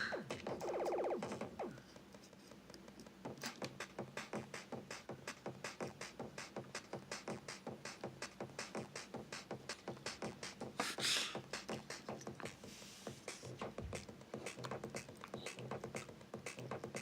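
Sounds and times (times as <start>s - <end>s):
drum machine clicks: 0.0s - 17.0s.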